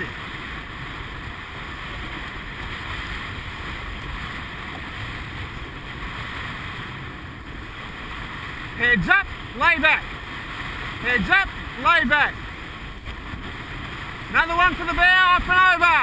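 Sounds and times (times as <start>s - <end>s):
water along boat hull: 0.0s - 16.0s
wind on microphone: 0.0s - 16.0s.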